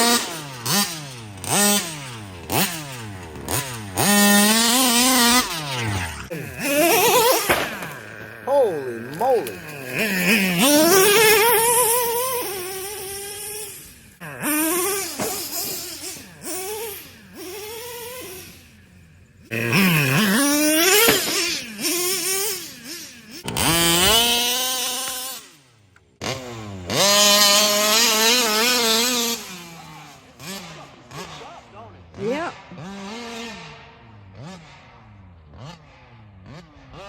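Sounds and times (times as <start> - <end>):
two-stroke engine revving: 0.0 - 37.0.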